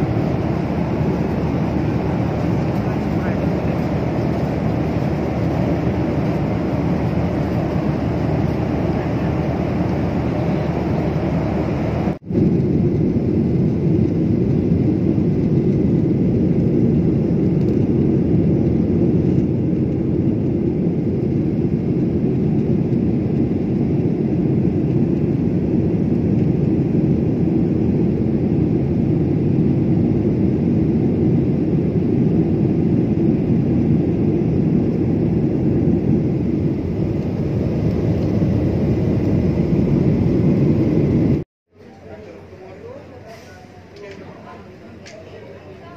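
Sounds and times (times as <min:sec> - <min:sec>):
jet cabin engine rumble: 0:00.0 - 0:45.9.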